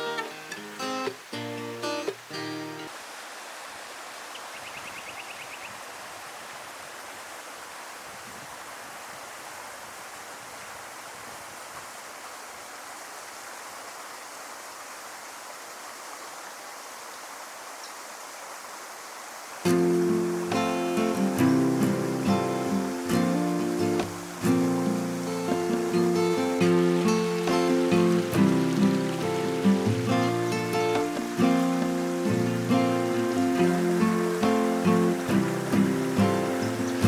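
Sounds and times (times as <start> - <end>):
creek water flowing: 0.0 - 37.0.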